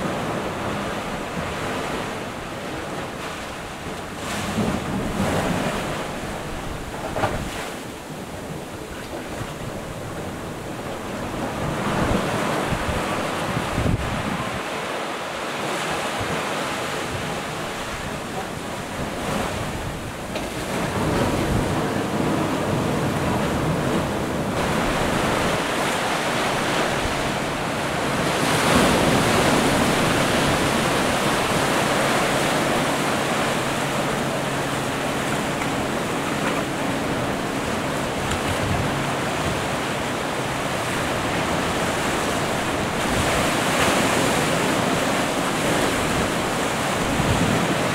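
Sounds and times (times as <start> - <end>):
surf breaking over rocks: 0.0 - 47.9.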